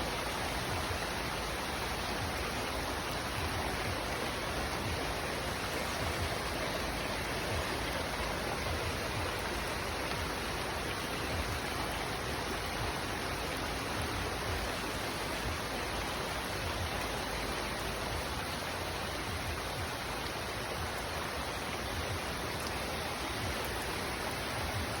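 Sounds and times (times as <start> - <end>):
rushing floodwater: 0.0 - 25.0.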